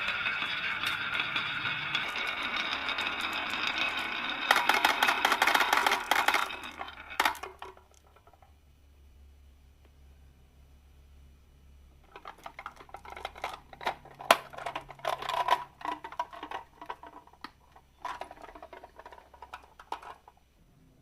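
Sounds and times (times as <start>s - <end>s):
marbles rolling down wooden run: 0.0s - 8.6s, 12.1s - 20.4s.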